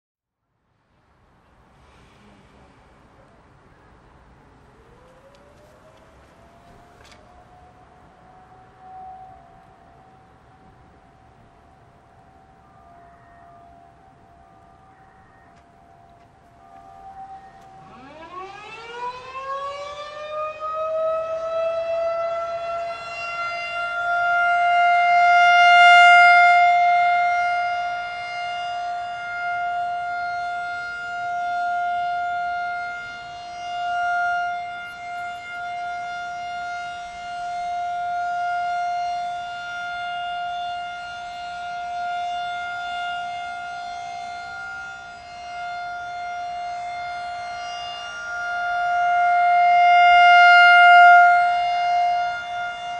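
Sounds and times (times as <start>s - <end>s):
rotating warning siren: 3.1s - 52.9s.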